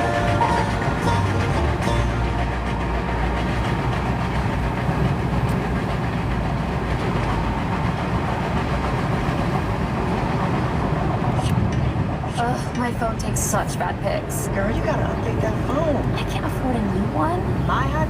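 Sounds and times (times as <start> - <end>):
low vehicle noise: 0.0 - 18.0.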